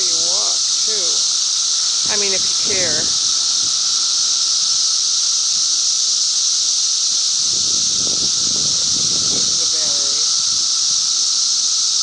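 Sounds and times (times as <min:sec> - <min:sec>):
cicadas shrill chorus: 0:00.0 - 0:12.0.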